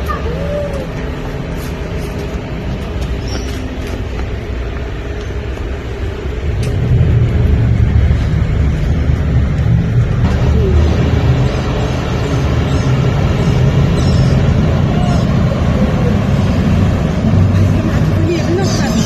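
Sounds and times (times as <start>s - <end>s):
ferry engines rumbling: 0.0s - 19.0s.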